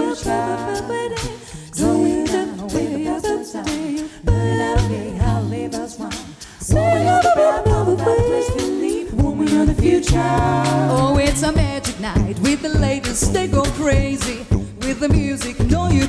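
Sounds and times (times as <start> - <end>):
a cappella group singing in harmony: 0.0 - 16.0
mouth percussion beat: 0.0 - 16.0
sung bass line: 0.0 - 16.0.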